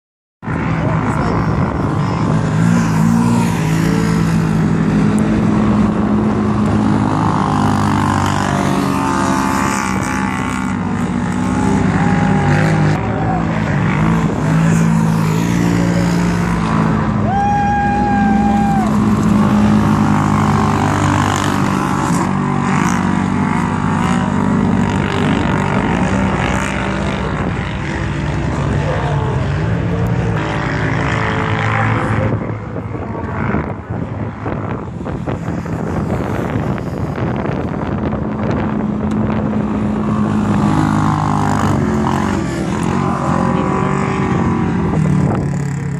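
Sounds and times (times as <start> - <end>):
off-road vehicle engines racing: 0.4 - 45.9.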